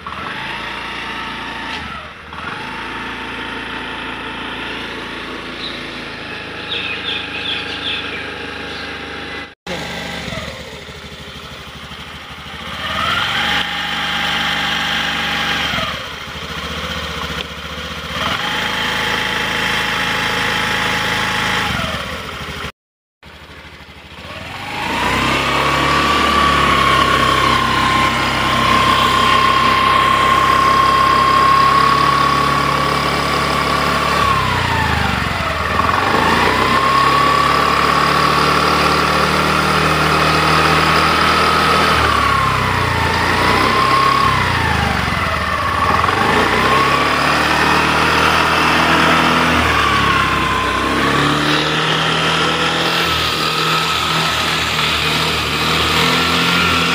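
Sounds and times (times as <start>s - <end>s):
scooter engine revving: 0.0s - 56.9s.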